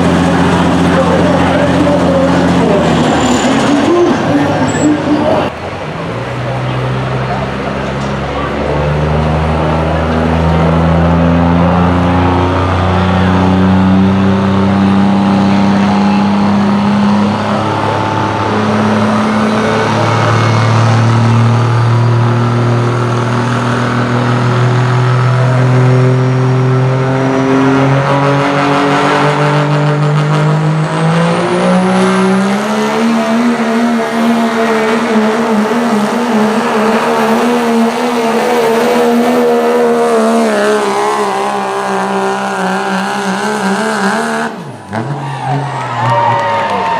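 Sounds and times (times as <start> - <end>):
diesel truck engine under load: 0.0 - 46.9.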